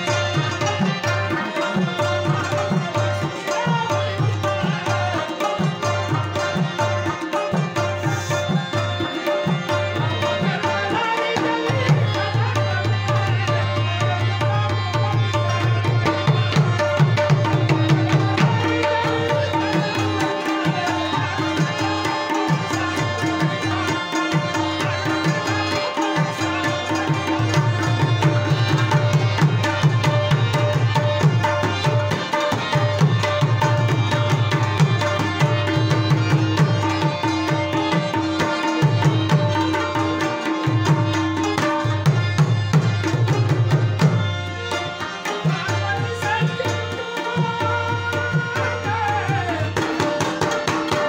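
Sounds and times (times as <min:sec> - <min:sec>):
tabla fast rhythm: 0:00.0 - 0:51.0.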